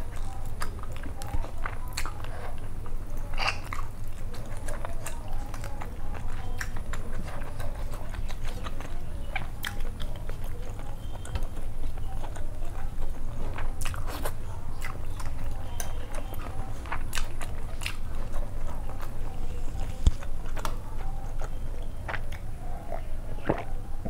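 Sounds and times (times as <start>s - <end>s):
steady low hum: 0.0s - 24.0s
wet chewing and mouth smacks: 0.0s - 24.0s.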